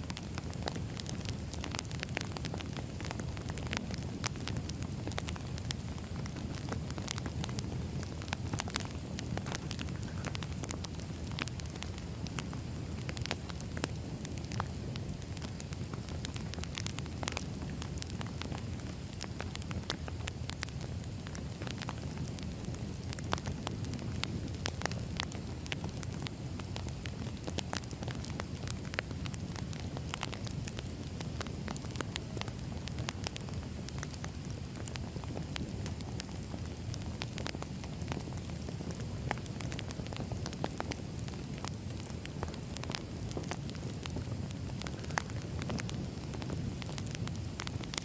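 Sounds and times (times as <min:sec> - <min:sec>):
crackling wood fire: 0:00.0 - 0:48.0.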